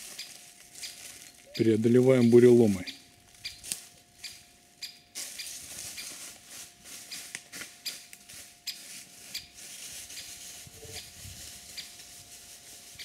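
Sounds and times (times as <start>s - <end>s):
branches crackling and rustling: 0.0s - 13.0s
footsteps crunching dry leaves: 0.0s - 13.0s.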